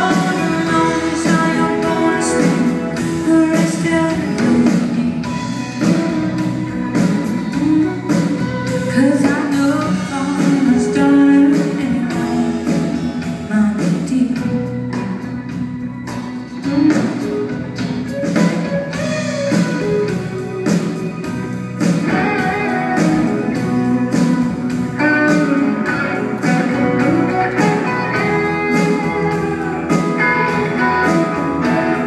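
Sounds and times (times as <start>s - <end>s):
acoustic and electric guitars: 0.0s - 32.0s
drums keeping a steady beat: 0.0s - 32.0s
keyboard: 0.0s - 32.0s
woman singing lead: 0.0s - 32.0s.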